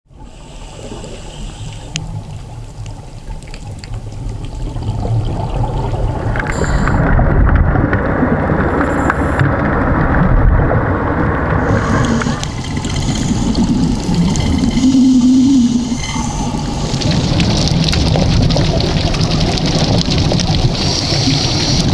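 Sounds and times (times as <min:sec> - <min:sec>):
underwater low rumble: 0:00.1 - 0:21.9
water gurgling: 0:00.2 - 0:21.9.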